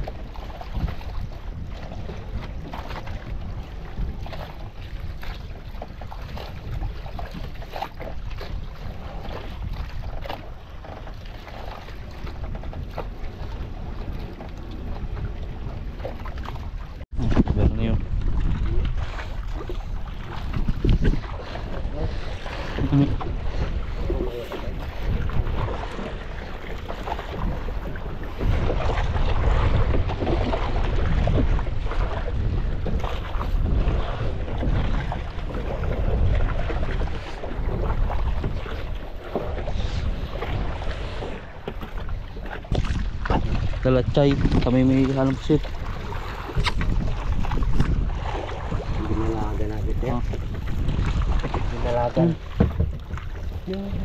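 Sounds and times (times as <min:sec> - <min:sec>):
water slapping against hull: 0:00.0 - 0:54.0
wind buffeting microphone: 0:00.0 - 0:54.0.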